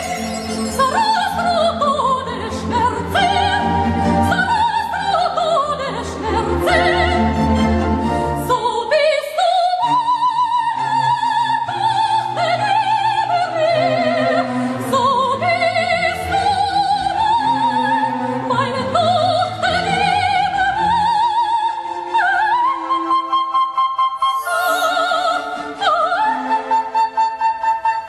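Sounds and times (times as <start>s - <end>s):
musical accompaniment: 0.0s - 28.0s
operatic soprano singing: 0.0s - 28.0s.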